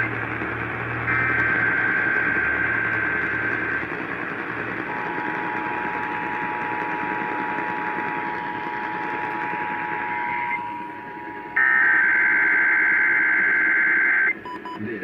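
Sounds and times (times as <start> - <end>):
digital header data burst: 0.0 - 14.3
radio hiss: 0.0 - 15.0.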